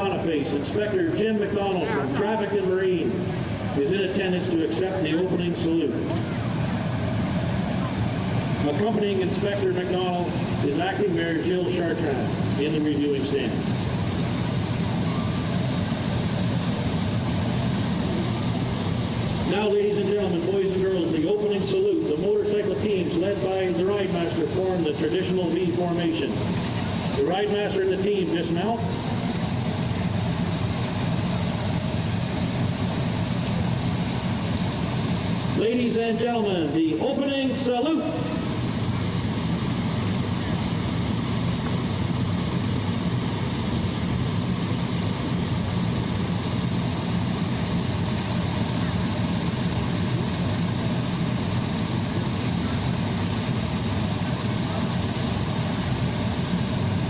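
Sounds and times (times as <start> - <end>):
motorcycles idling: 0.0 - 57.0.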